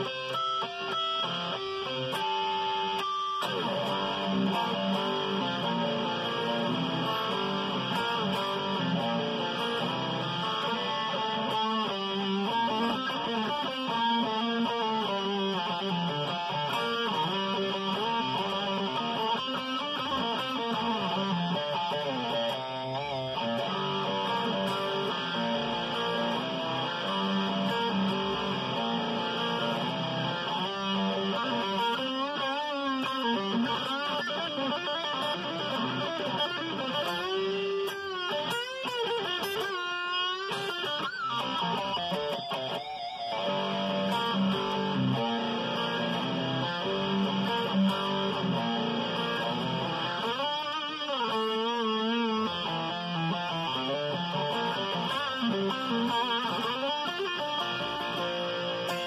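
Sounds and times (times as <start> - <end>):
electric guitar riff: 0.0 - 59.0.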